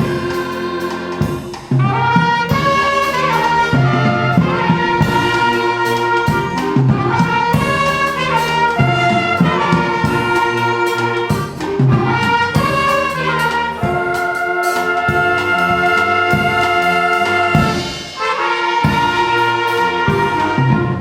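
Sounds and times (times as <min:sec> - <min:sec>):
brass instruments playing chords: 0:00.0 - 0:21.0.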